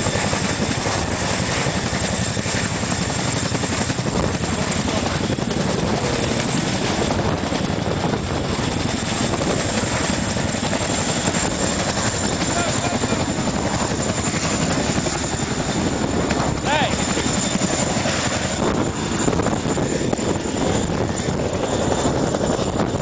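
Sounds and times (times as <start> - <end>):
helicopter engine noise: 0.0 - 23.0
helicopter rotors beating: 0.0 - 23.0.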